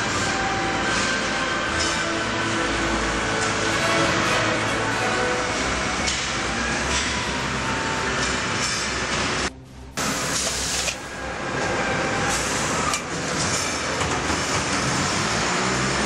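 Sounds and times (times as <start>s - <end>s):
production line machinery din: 0.0s - 16.0s.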